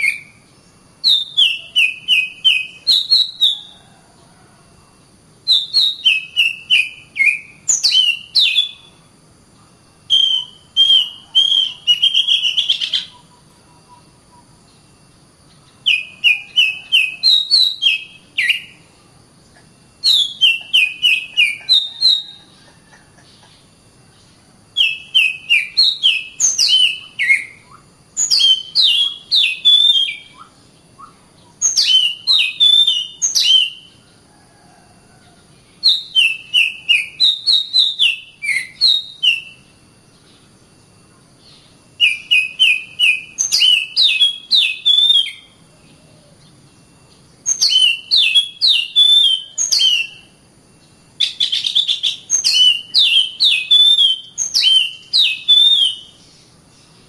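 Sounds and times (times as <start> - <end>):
bird singing whistled notes: 0.0 - 3.9, 5.4 - 9.0, 10.0 - 19.0, 19.8 - 22.6, 24.8 - 34.0, 35.6 - 40.5, 41.4 - 57.0.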